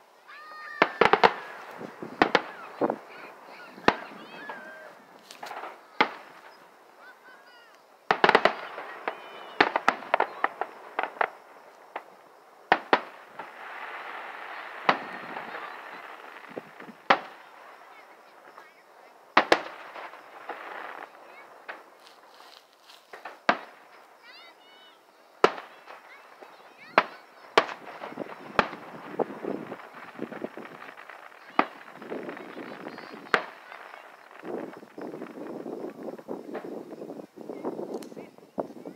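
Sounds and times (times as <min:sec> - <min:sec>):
firework shells bursting: 0:00.0 - 0:38.8
firework cracks: 0:00.0 - 0:38.9.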